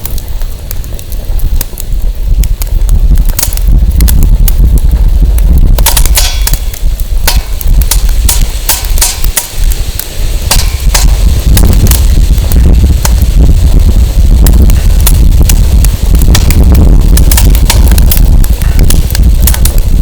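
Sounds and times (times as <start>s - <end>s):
firewood crackling and popping: 0.0s - 20.0s
wind rumble on microphone: 0.0s - 20.0s.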